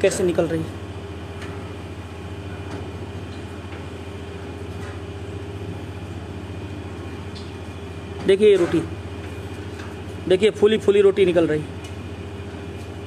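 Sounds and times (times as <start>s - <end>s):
machine motor hum: 0.0s - 13.0s.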